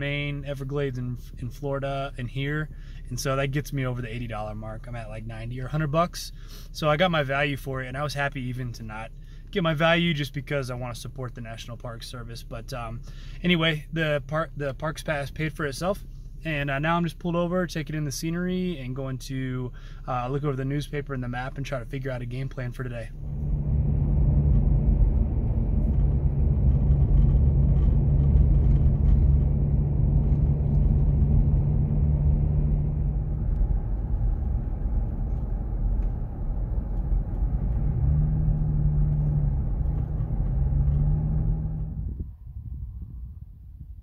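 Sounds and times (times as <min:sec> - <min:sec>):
road noise inside car: 0:00.0 - 0:43.4
car engine rumble: 0:00.0 - 0:44.0.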